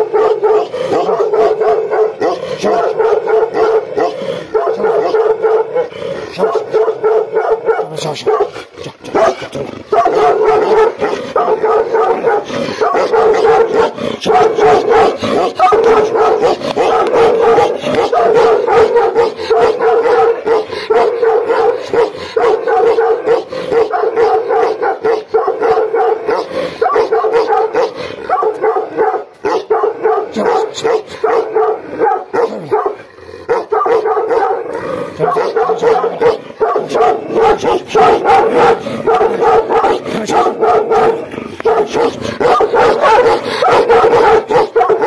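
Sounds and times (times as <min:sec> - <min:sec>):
dogs barking aggressively: 0:00.0 - 0:45.0.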